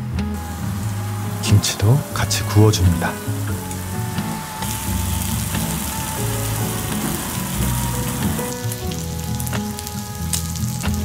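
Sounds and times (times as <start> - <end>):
meat sizzling on a hot plate: 0.4 - 11.0.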